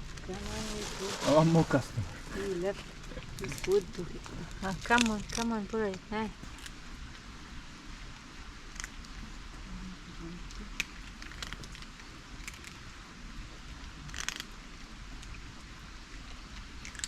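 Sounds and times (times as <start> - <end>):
cats crunching food: 0.1 - 7.3, 8.7 - 9.2, 10.5 - 17.0.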